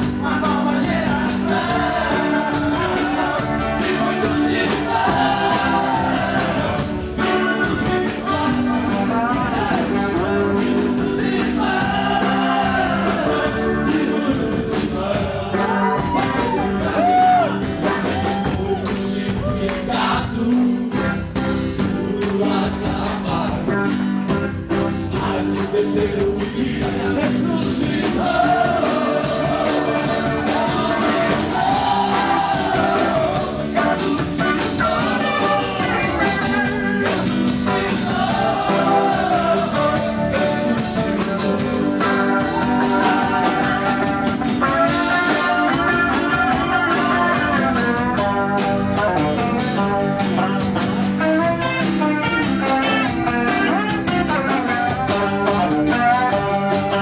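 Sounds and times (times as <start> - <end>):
person singing: 0.0 - 24.0, 25.1 - 57.0
rock band playing: 0.0 - 57.0.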